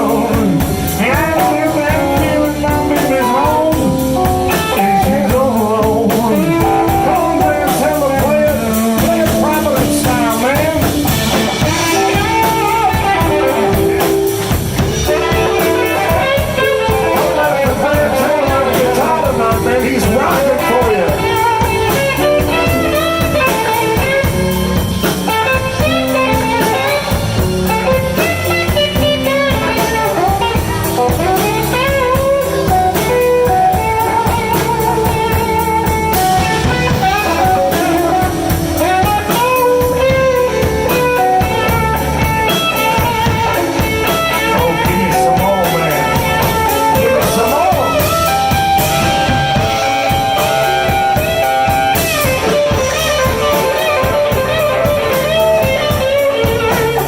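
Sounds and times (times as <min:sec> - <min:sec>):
drum kit: 0:00.0 - 0:57.0
electric guitar solo: 0:00.0 - 0:57.0
live blues band playing: 0:00.0 - 0:57.0.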